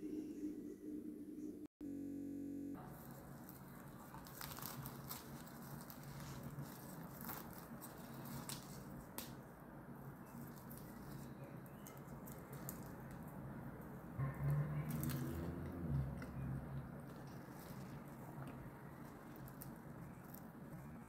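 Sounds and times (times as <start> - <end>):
faint low hum: 0.0 - 21.0
flatbread tearing and crackling: 3.0 - 9.4, 10.1 - 21.0.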